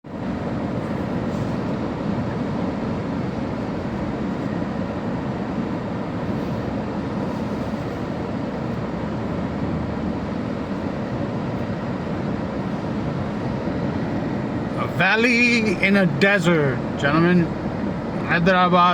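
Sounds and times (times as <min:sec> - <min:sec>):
vehicle driving on highway: 0:00.0 - 0:18.9.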